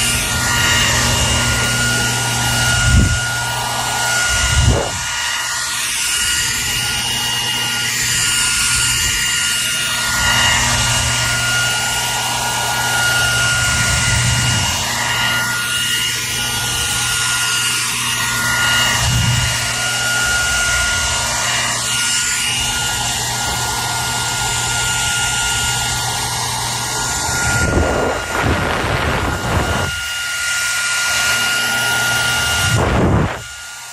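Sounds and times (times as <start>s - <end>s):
hair dryer running: 0.0s - 33.9s.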